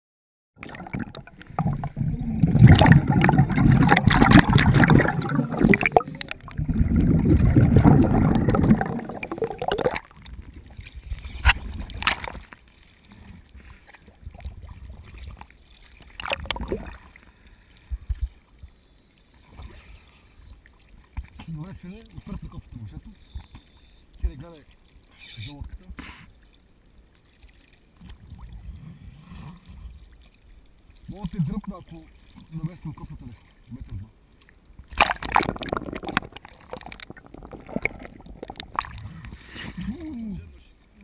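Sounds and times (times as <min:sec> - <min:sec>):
sea water sloshing and gurgling: 0:00.6 - 0:41.0
water splashes: 0:00.6 - 0:41.0.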